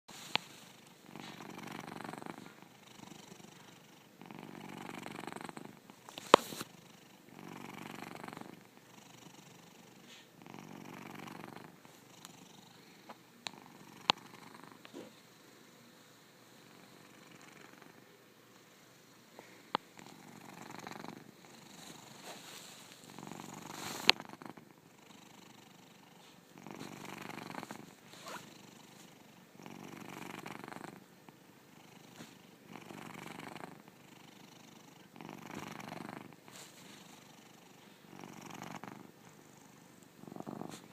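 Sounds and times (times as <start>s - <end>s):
cat snoring: 0.2s - 15.2s, 16.5s - 18.2s, 19.4s - 31.1s, 31.7s - 40.9s.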